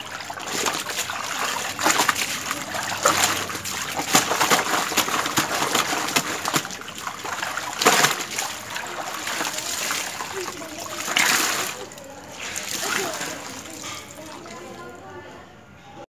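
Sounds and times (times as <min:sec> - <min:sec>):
water dripping into tub: 0:00.0 - 0:14.6
towel splashing in soapy water: 0:00.0 - 0:14.7.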